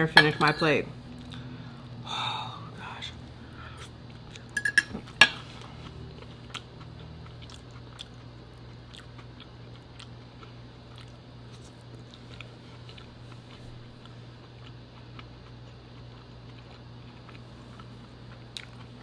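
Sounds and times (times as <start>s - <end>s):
person chewing food: 2.8s - 19.0s.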